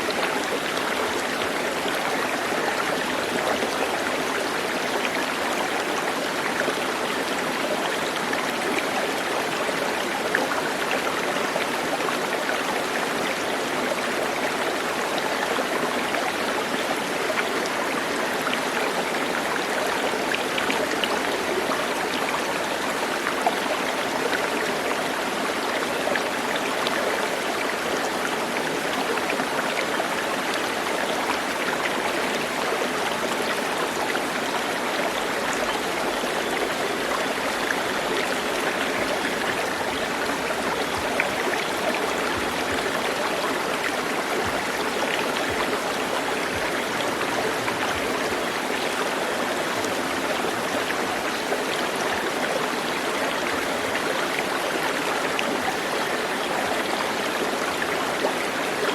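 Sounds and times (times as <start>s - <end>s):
stream rushing: 0.0s - 58.9s.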